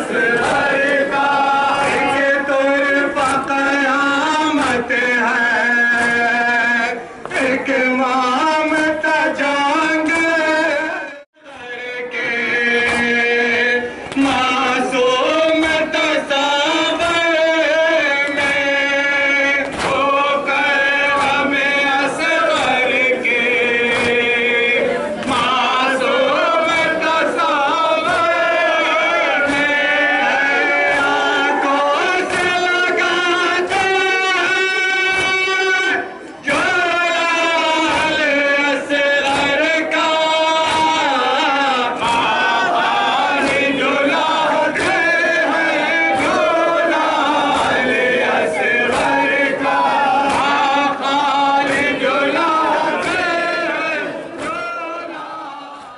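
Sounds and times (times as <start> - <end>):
sharp rhythmic beats: 0.0 - 11.0, 11.6 - 55.9
men chanting together: 0.0 - 55.9.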